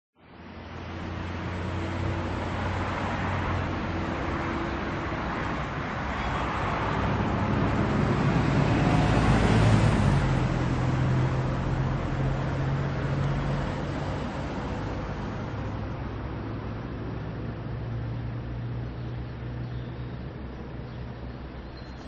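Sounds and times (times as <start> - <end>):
low engine hum: 0.2 - 22.0
road traffic: 0.2 - 22.0.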